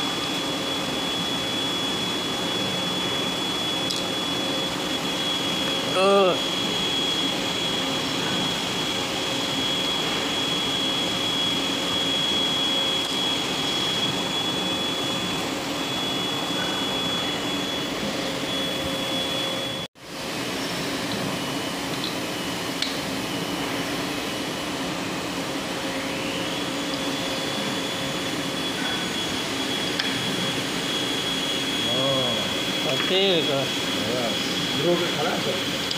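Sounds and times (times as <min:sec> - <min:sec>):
factory machinery drone: 0:00.0 - 0:35.9
high thin whine: 0:00.0 - 0:35.9.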